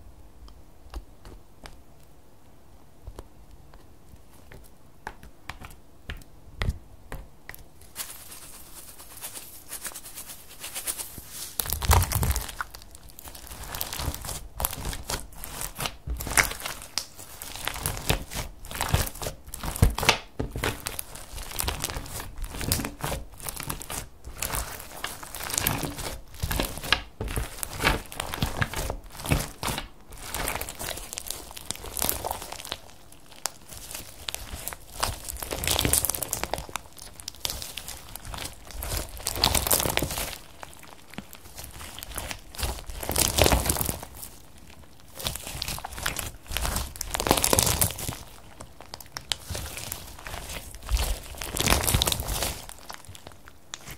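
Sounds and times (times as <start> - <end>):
slime crackling and squelching: 6.6 - 53.9.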